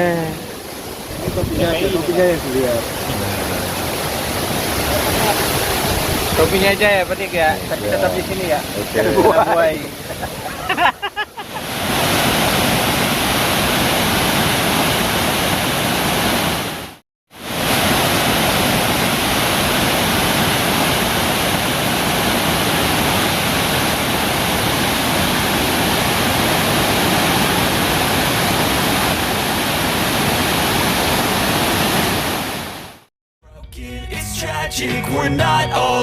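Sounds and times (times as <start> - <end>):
waterfall rushing: 0.0 - 33.1.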